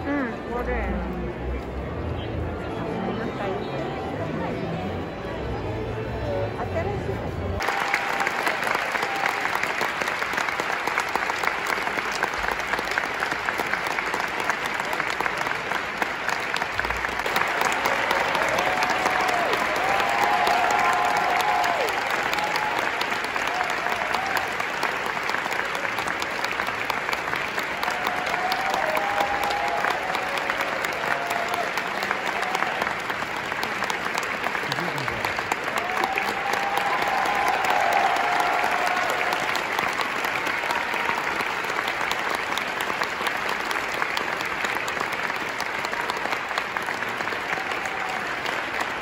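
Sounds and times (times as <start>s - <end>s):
audience applauding: 7.6s - 49.0s.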